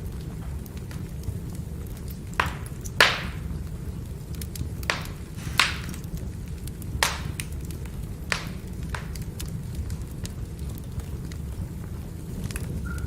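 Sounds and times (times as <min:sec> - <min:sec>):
logs crackling and popping: 0:00.0 - 0:13.0
low rumble of flame: 0:00.0 - 0:13.0.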